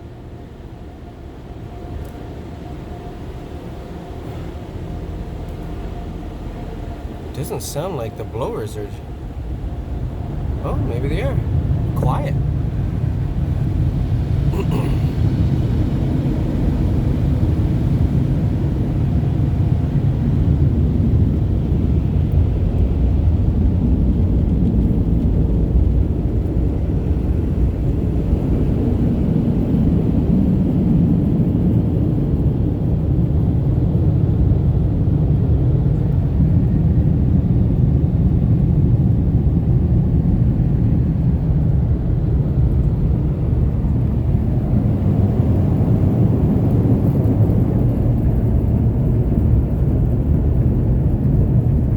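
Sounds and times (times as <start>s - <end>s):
car wash dryer blowers rumbling: 0.0s - 51.9s.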